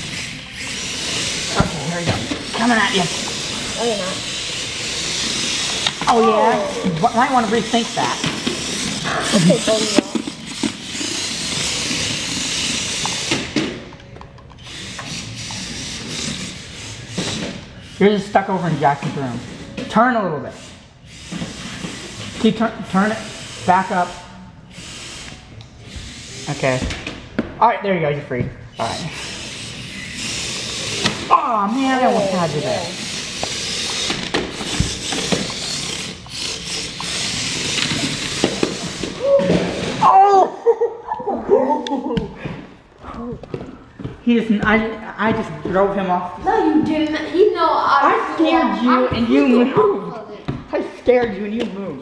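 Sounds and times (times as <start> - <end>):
toy electric motors and treads whirring: 0.0 - 27.4, 28.7 - 40.5, 43.1 - 52.0.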